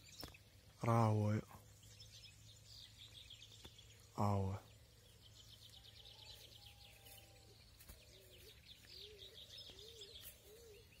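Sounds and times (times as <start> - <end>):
songbirds twittering: 0.0 - 11.0.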